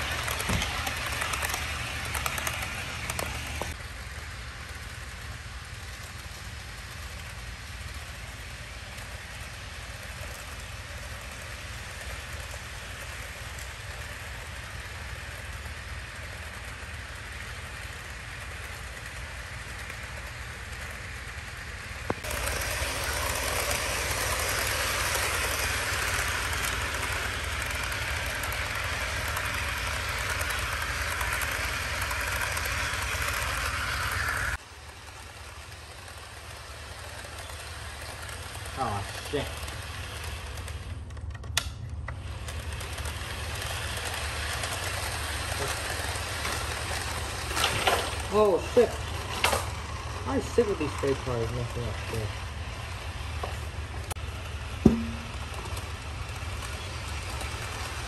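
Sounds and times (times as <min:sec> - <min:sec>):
model train motors whirring: 0:00.0 - 0:58.0.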